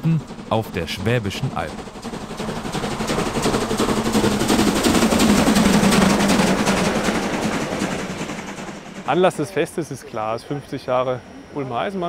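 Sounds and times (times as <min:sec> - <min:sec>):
steam locomotive exhaust chuffing: 0:00.0 - 0:12.0.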